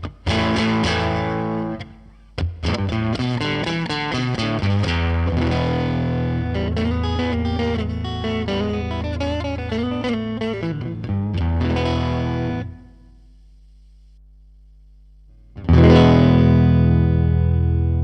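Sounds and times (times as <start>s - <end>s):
distorted electric guitar: 0.0s - 13.3s, 15.3s - 18.0s
low amplifier hum: 0.0s - 18.0s.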